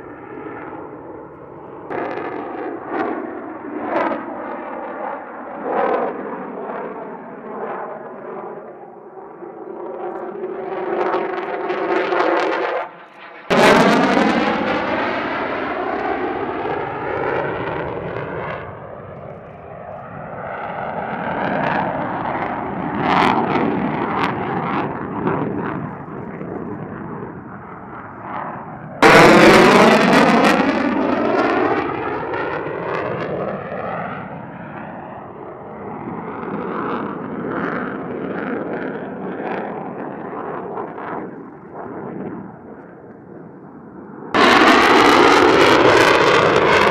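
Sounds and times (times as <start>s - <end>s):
jet engine roaring overhead: 0.0s - 46.9s.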